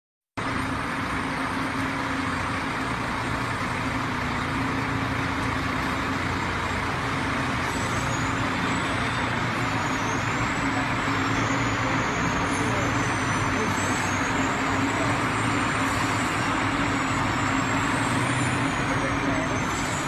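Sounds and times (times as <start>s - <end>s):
heavy truck engines: 0.4s - 20.0s
road and tyre noise: 0.4s - 20.0s.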